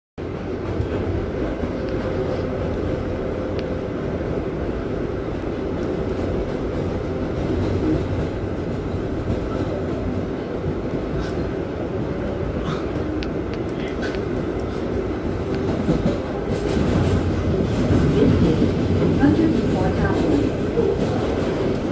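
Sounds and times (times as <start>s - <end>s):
subway car rumble: 0.2s - 21.9s.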